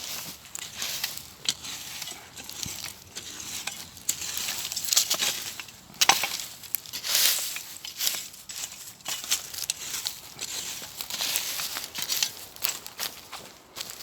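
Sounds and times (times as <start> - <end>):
footsteps crunching dry leaves: 0.0 - 14.0
twigs cracking: 0.0 - 14.0.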